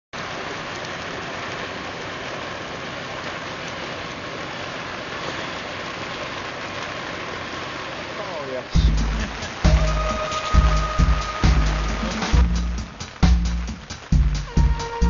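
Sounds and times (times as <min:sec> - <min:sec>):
rain falling: 0:00.2 - 0:15.0.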